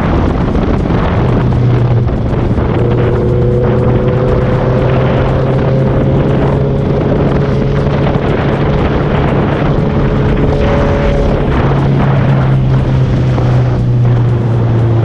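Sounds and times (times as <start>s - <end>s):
motorcycle engine cruising: 0.0s - 15.0s
wind rushing: 0.0s - 15.0s.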